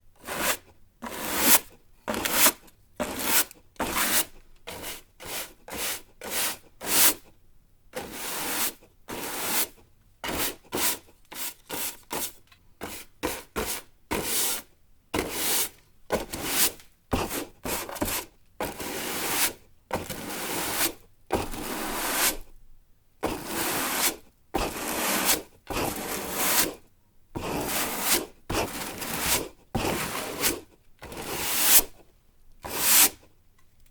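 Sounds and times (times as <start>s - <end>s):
broom sweeping floor: 0.2s - 7.3s, 8.0s - 22.4s, 23.2s - 26.8s, 27.4s - 32.0s, 32.6s - 33.3s.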